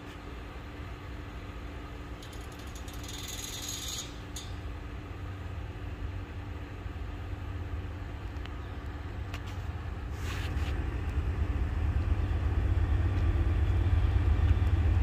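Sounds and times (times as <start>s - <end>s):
distant freight train rumble: 0.0s - 15.0s
faint steady hum: 0.0s - 15.0s.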